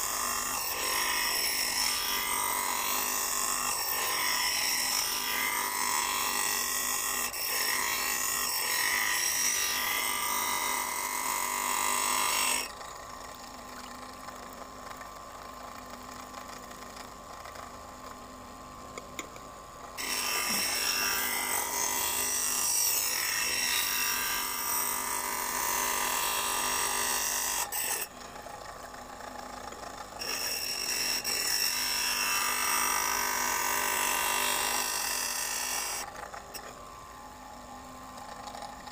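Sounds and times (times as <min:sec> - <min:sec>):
bench grinder grinding blade: 0:00.0 - 0:18.2, 0:18.8 - 0:38.9.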